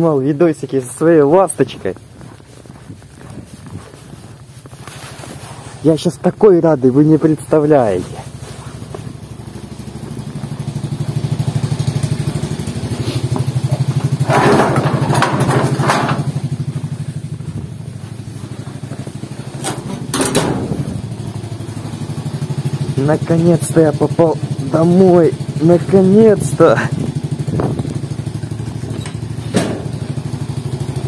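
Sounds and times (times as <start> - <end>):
moped engine idling: 1.9 - 31.0.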